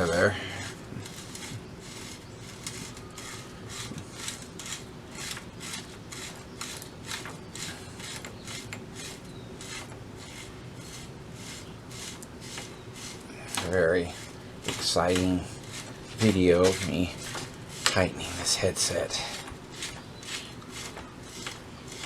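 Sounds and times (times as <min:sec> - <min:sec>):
bicycle headset rasping on threads: 0:00.0 - 0:22.0.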